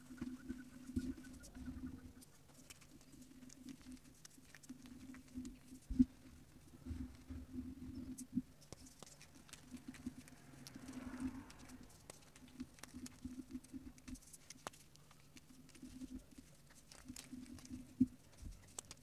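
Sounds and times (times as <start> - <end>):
chalk crunching between fingers: 0.1 - 6.4, 8.0 - 19.0.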